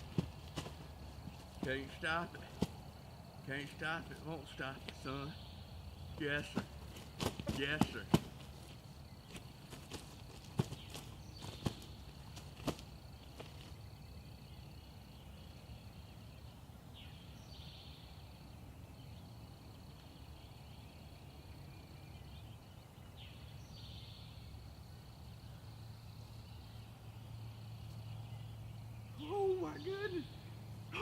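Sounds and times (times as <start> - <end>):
bird calls: 0.0 - 31.0.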